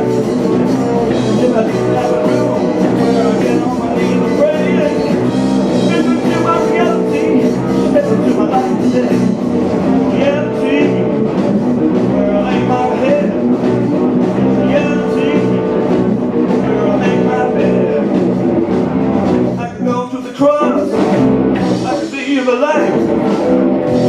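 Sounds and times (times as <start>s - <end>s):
person singing: 0.0s - 11.4s, 12.0s - 18.3s, 19.6s - 24.0s
live rock band playing: 0.0s - 24.0s.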